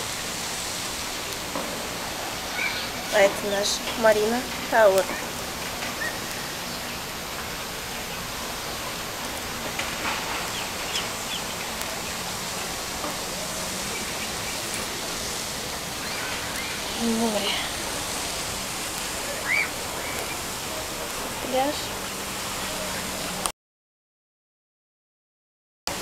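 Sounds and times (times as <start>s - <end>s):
outdoor ambience hiss: 0.0s - 23.5s.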